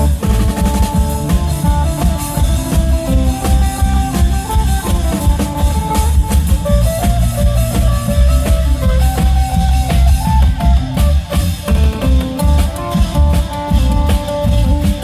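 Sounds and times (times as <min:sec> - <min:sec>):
drums beating a steady rhythm: 0:00.0 - 0:15.0.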